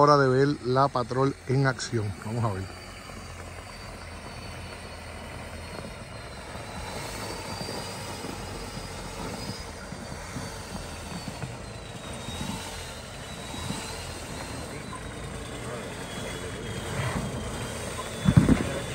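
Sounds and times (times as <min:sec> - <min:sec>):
faint high whine: 0:00.0 - 0:18.9
off-road engine running: 0:00.0 - 0:18.9.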